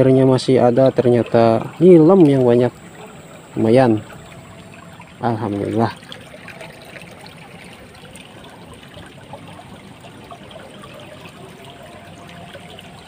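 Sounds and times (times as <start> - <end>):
shallow stream trickling: 0.0 - 13.0.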